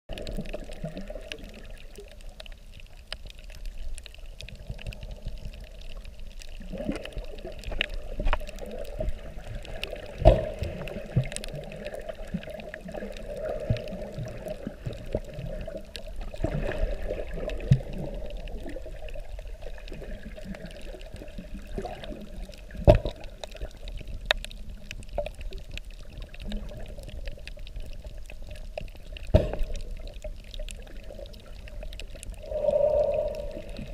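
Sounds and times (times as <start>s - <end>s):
underwater moving water: 0.1s - 33.9s.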